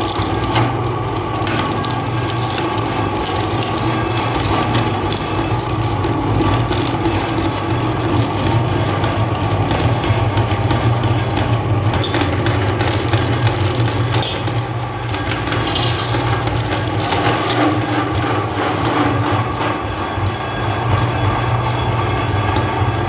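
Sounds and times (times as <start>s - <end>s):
candy crackling in grinder: 0.0s - 23.0s
meat grinder motor humming: 0.0s - 23.0s.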